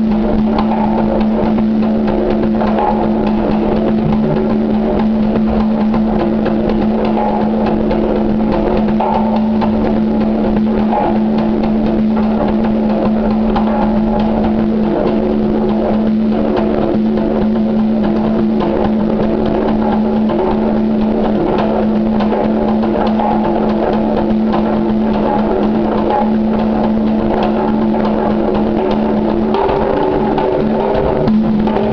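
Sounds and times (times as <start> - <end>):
congas played by hand: 0.0 - 31.9
steady low tone: 0.0 - 31.9.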